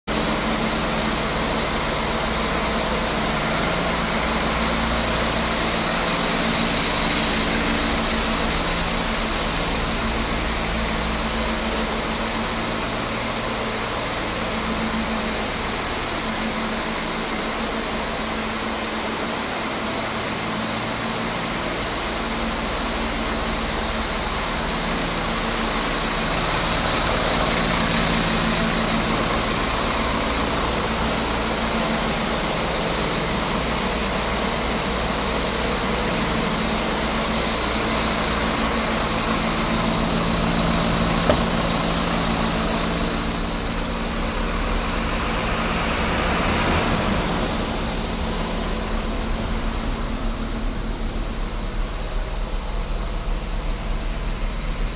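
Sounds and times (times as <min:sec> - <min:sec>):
diesel engine idling: 0:00.1 - 0:54.9.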